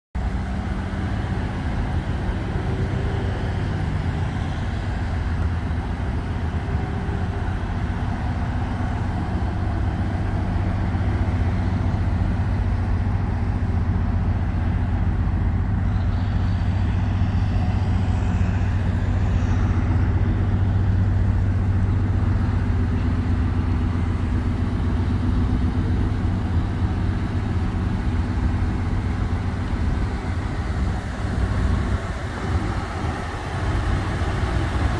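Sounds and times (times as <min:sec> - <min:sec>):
truck engine idling: 0:00.2 - 0:34.9.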